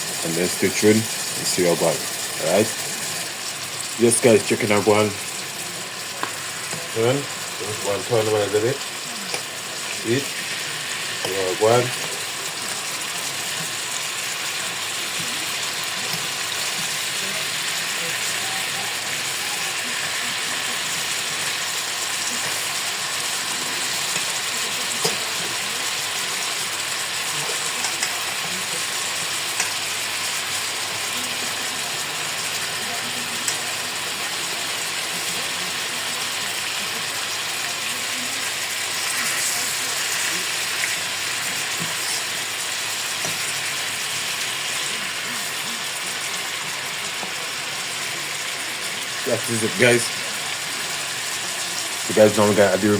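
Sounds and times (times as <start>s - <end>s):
chicken sizzling in oil: 0.0s - 52.9s.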